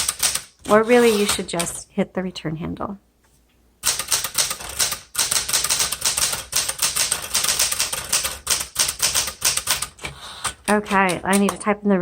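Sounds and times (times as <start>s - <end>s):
manual typewriter clatter: 0.0s - 1.8s, 3.8s - 11.7s.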